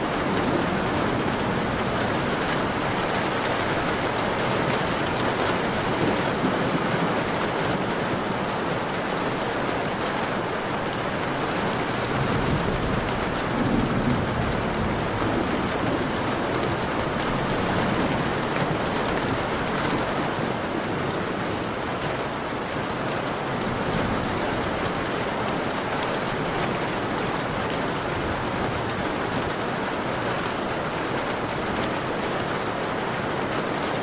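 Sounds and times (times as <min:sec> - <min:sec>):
rain on a window pane: 0:00.0 - 0:34.0.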